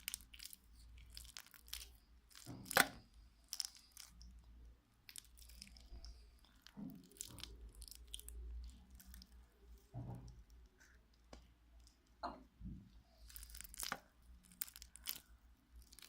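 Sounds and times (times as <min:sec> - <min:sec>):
slime crackling and crunching: 0:00.0 - 0:10.9, 0:13.1 - 0:16.0.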